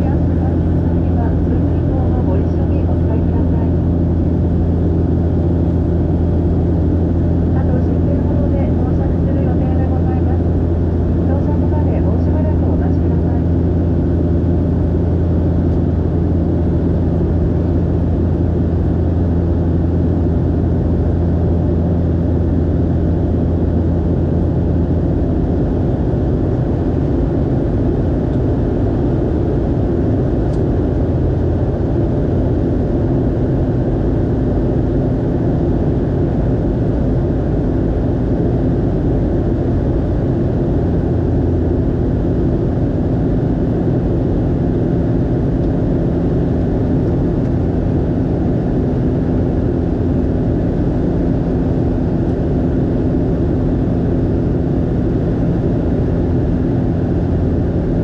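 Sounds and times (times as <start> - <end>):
airliner cabin engine noise: 0.0 - 58.0
low hum: 0.0 - 58.0.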